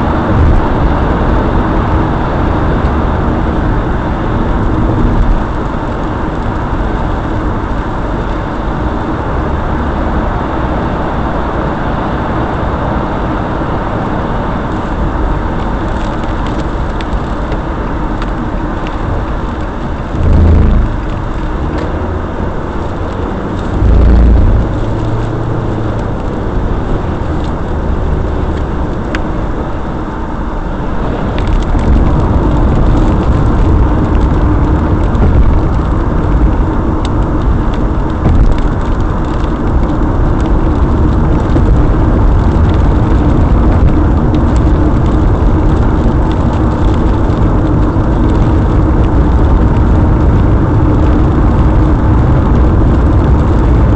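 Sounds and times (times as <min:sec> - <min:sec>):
car road and engine noise: 0:00.0 - 0:53.9
low rumbles: 0:00.0 - 0:53.9.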